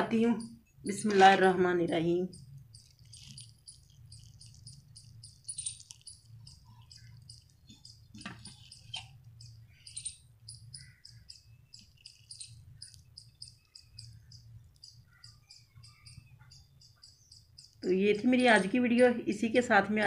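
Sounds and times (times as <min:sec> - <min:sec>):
low steady hum: 0:00.0 - 0:20.0
crickets chirping: 0:01.7 - 0:19.2.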